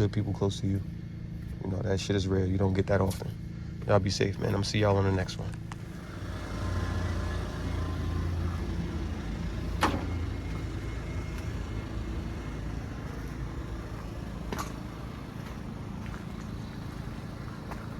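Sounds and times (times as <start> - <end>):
vehicle engine droning: 0.0 - 17.9.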